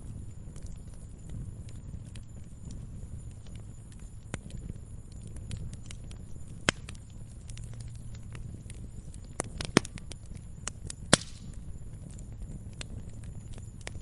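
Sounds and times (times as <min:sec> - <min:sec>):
fireplace fire crackling: 0:00.0 - 0:14.0
low rumble of burning fire: 0:00.0 - 0:14.0
sharp pops of burning wood: 0:00.2 - 0:14.0.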